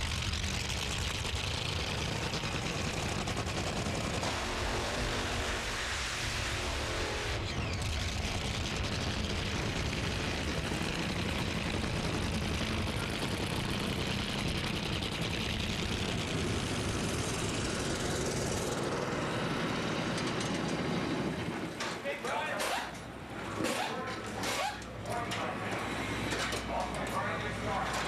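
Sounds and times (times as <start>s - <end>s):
dragster engines crackling: 0.0s - 28.0s.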